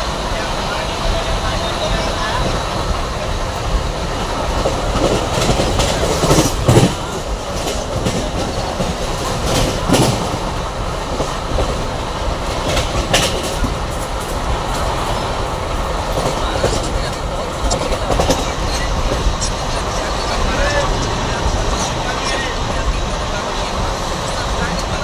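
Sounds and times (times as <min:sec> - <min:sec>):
train wheels rumbling on rails: 0:00.0 - 0:25.0
clacks over rail joints: 0:04.5 - 0:25.0.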